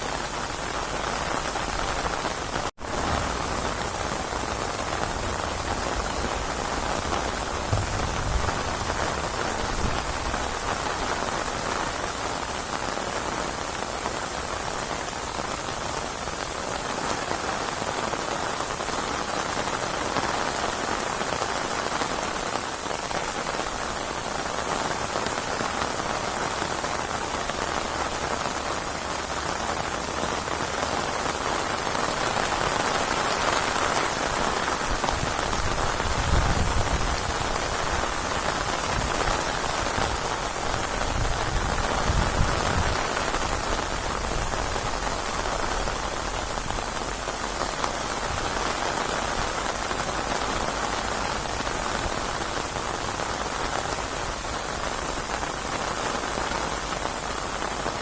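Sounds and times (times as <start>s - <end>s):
steady rain pouring: 0.0s - 58.0s.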